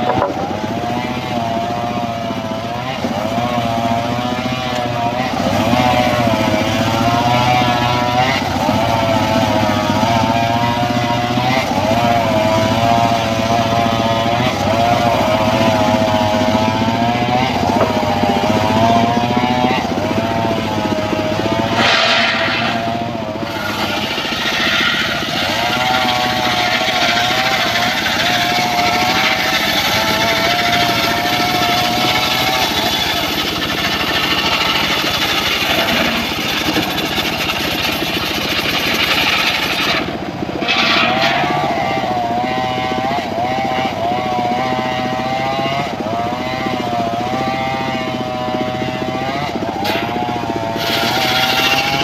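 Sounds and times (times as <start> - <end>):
circular sawmill sawing log: 0.0 - 52.0.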